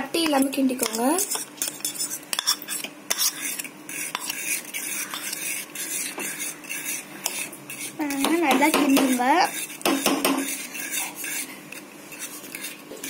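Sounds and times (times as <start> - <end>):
fork clinking and scraping pan: 0.2 - 13.0.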